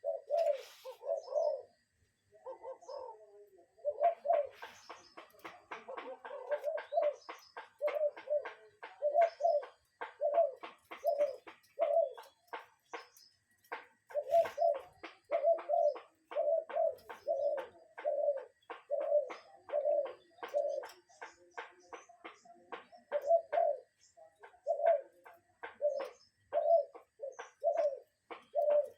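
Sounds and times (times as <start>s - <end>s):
bird cooing: 0.0s - 28.9s.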